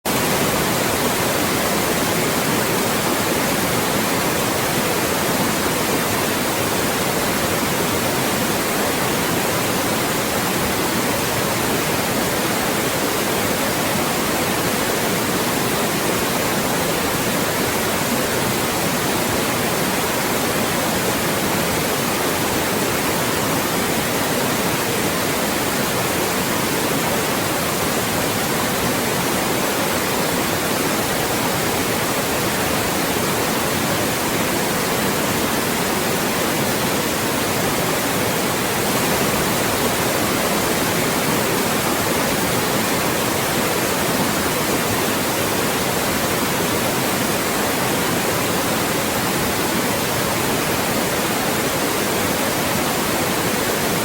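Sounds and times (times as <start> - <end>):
white noise hiss: 0.1 - 54.0.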